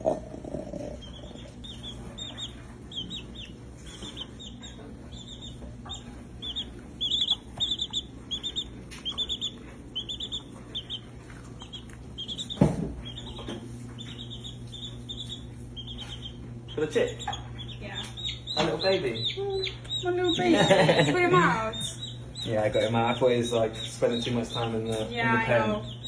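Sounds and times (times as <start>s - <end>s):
baby chick peeping: 0.0s - 26.0s.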